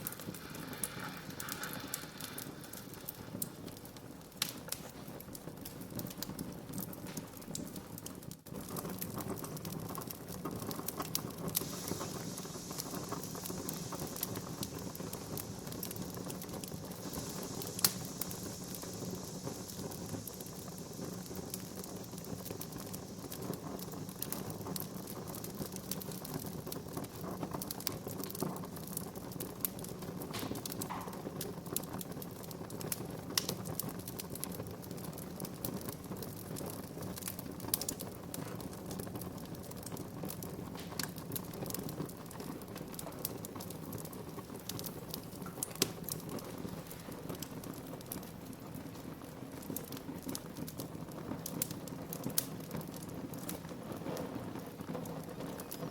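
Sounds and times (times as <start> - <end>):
faint high hiss: 0.0 - 7.6, 9.0 - 50.4
fire popping: 0.0 - 55.9
low rush of flames: 0.0 - 55.9
wood fire crackling: 0.0 - 55.9.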